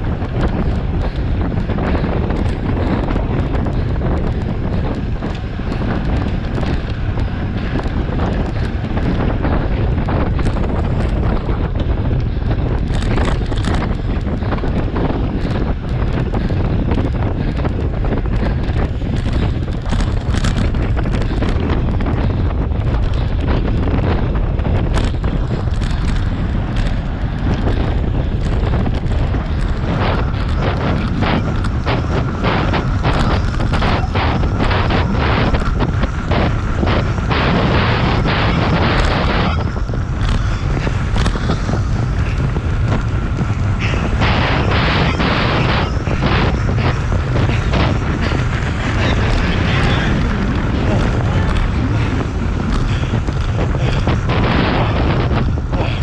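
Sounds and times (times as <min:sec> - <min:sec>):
rapid clatter of ticks and knocks: 0:00.0 - 0:56.0
wind buffeting microphone: 0:00.0 - 0:56.0.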